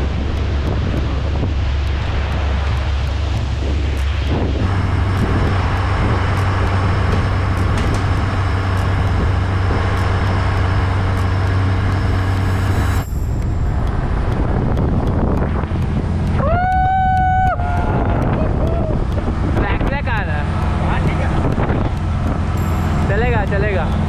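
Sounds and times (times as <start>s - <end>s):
speedboat engine running: 0.0s - 24.0s
wind on microphone: 0.0s - 24.0s.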